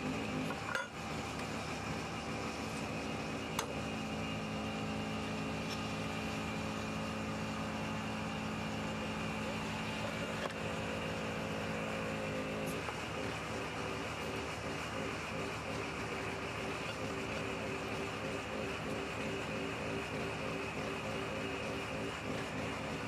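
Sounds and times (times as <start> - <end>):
hydraulic pump engine running: 0.0 - 23.0.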